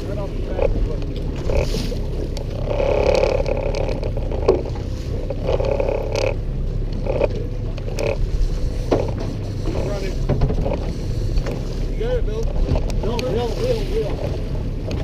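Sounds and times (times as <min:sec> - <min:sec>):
boat motor rumbling: 0:00.0 - 0:15.0.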